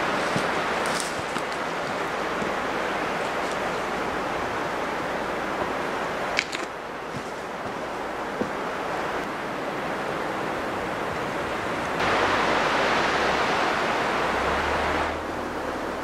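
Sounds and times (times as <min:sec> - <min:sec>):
rushing wind in trees: 0:00.0 - 0:16.0
wind rumbling on microphone: 0:00.0 - 0:16.0.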